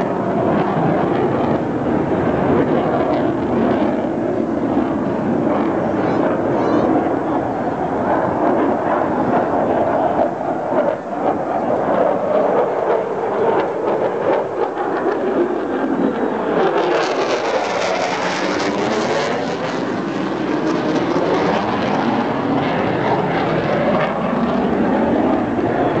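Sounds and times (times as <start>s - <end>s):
jet flyover roar: 0.0s - 26.0s.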